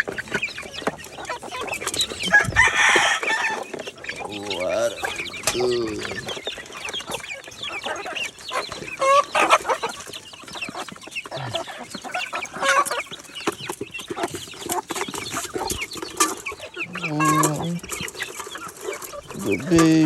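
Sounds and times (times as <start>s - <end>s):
chickens clucking: 0.0s - 20.0s
chicks peeping: 0.0s - 20.0s.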